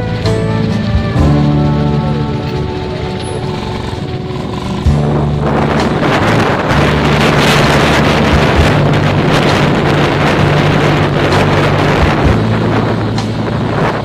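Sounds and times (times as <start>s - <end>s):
low engine drone: 0.0s - 14.0s
wind rushing over microphone: 0.0s - 14.0s.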